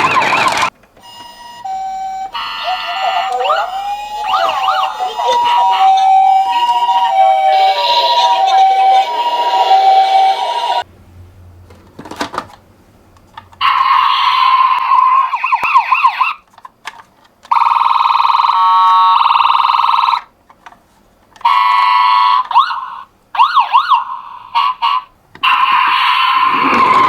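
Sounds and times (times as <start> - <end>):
toy ambulance electronic siren: 0.0 - 10.8, 13.6 - 16.4, 17.5 - 20.3, 21.4 - 27.0.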